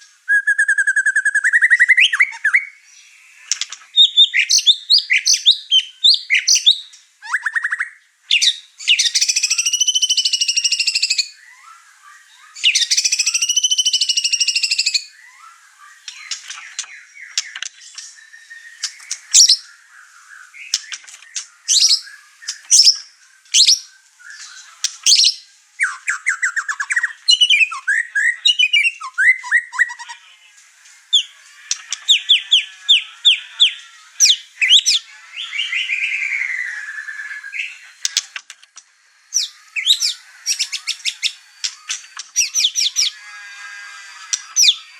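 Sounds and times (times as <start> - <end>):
bird singing chirps and trills: 0.0 - 38.3, 39.1 - 44.9
harsh buzzing bird phrases: 0.0 - 44.9.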